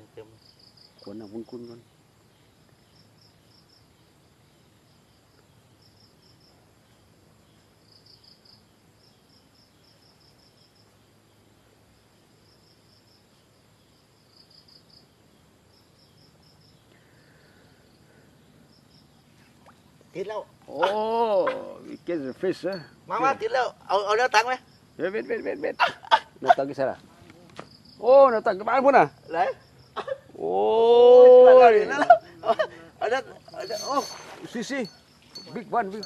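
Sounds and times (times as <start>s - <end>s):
insect chirping trills: 0.0s - 36.0s.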